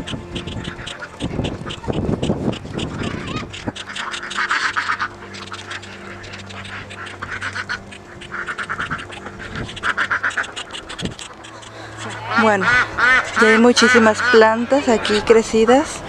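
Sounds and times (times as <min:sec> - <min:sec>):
ducks quacking: 0:00.0 - 0:16.0
low steady hum: 0:00.0 - 0:16.0.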